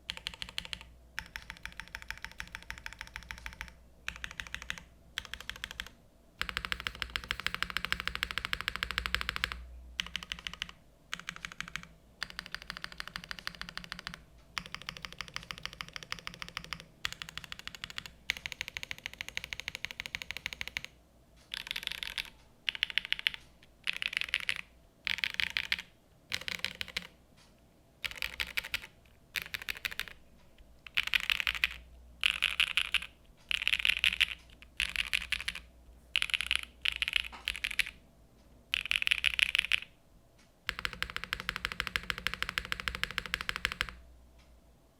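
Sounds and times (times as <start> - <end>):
mechanical keyboard typing: 0.0 - 27.2, 28.0 - 38.0, 38.7 - 40.0, 40.6 - 44.0.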